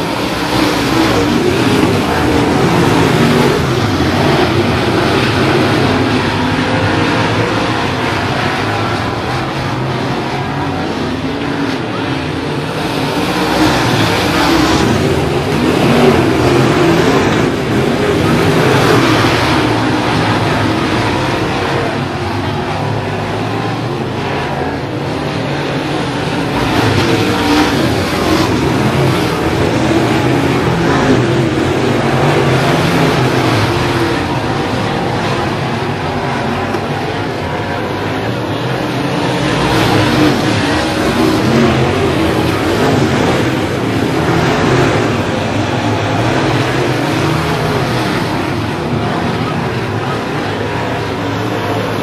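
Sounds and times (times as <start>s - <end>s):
race car engine passing: 0.0s - 52.0s.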